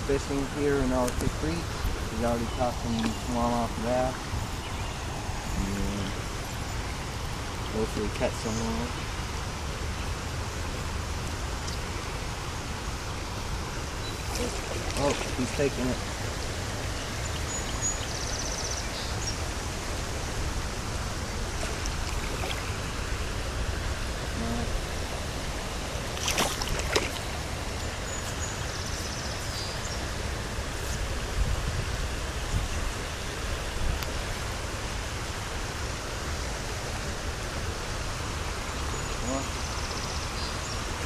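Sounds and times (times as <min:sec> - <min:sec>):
creek water running: 0:00.0 - 0:41.0.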